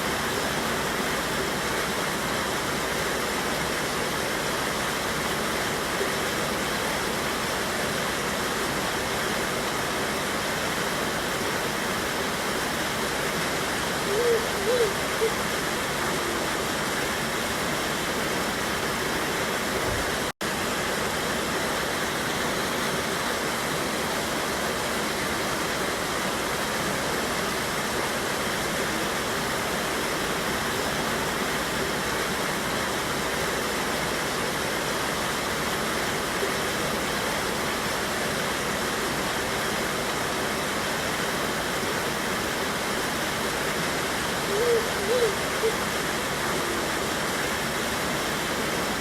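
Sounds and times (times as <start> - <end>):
waterfall rushing over rocks: 0.0 - 49.0.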